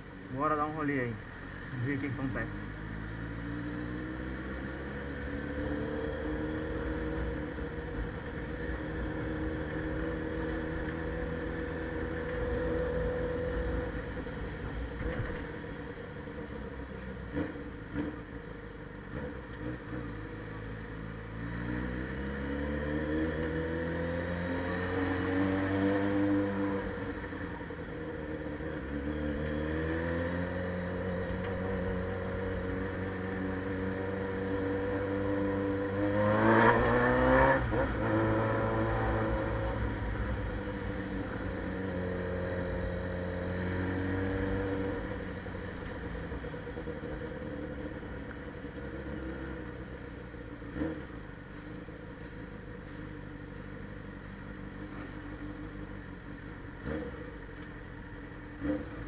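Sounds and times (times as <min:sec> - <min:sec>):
motorcycle engine revving: 0:02.1 - 0:18.4, 0:19.1 - 0:53.5, 0:54.2 - 0:59.0.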